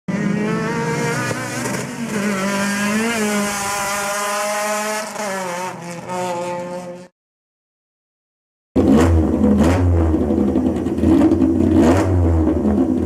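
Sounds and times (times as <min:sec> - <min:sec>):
car engine at high revs: 0:00.1 - 0:07.1, 0:08.8 - 0:13.0.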